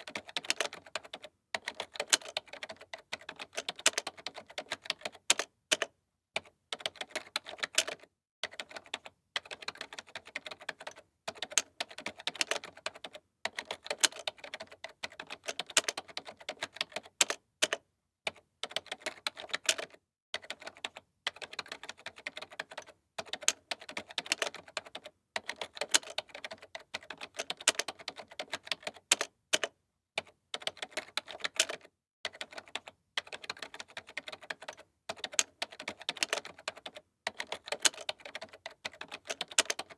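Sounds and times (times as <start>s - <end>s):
keyboard typing clicks: 0.0s - 39.9s.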